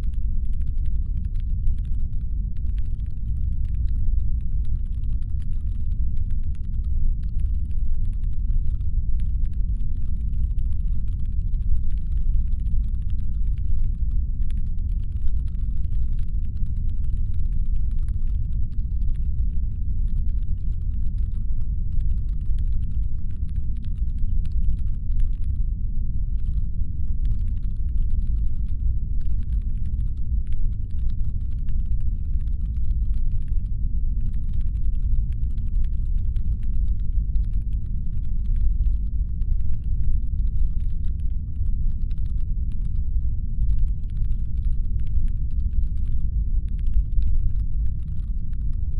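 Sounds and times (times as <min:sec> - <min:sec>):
faint rapid clicking: 0:00.0 - 0:25.6, 0:26.3 - 0:48.9.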